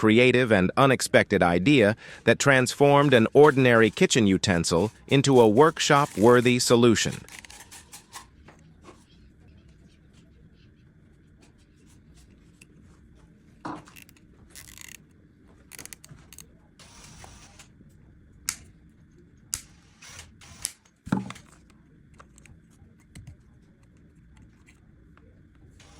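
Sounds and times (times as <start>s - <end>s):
low background hum: 0.0s - 25.9s.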